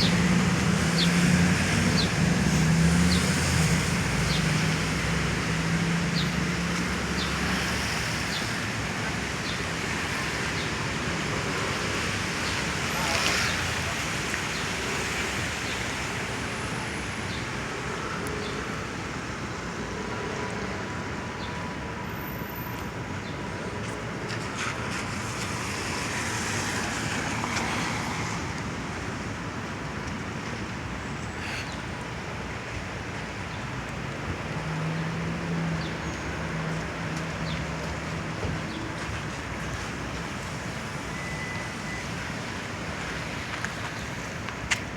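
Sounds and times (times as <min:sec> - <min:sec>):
traffic on wet pavement: 0:00.0 - 0:44.9.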